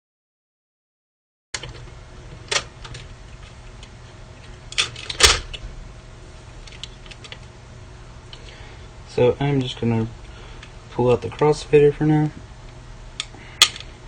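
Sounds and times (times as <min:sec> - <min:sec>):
low hum: 0:01.6 - 0:14.0.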